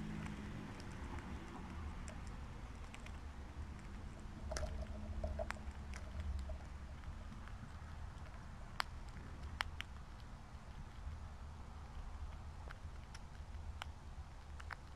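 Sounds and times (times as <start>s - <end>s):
low background rumble: 0.0s - 14.9s
squirrel cracking seeds: 0.0s - 14.9s.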